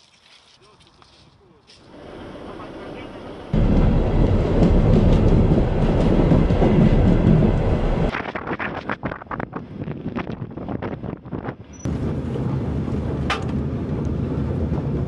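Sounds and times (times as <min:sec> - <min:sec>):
train rumbling and rattling on rails: 0:01.8 - 0:15.0.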